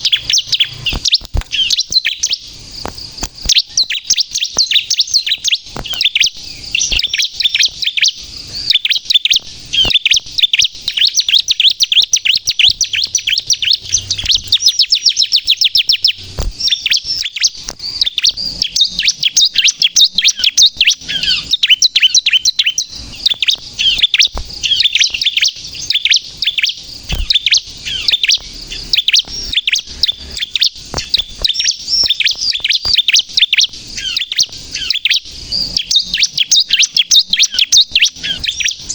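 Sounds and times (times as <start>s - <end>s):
bird singing high chirps and trills: 0.0s - 38.9s.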